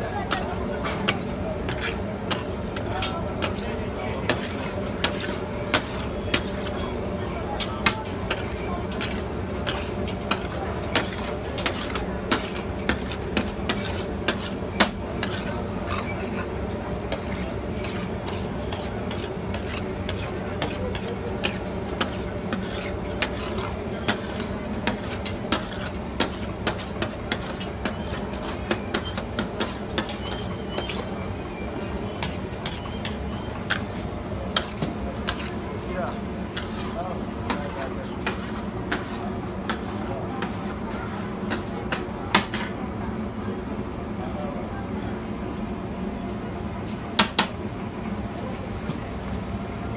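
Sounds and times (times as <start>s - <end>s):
metal spatula scraping on griddle: 0.0s - 41.7s
steady background noise: 0.0s - 49.9s.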